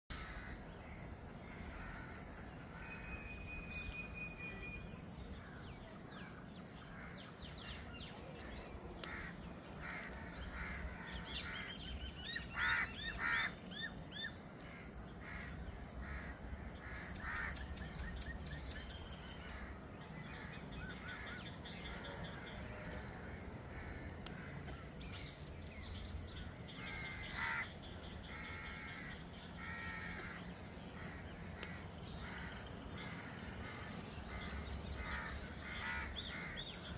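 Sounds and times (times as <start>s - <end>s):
birds chirping: 0.1s - 36.9s
low background noise: 0.1s - 36.9s.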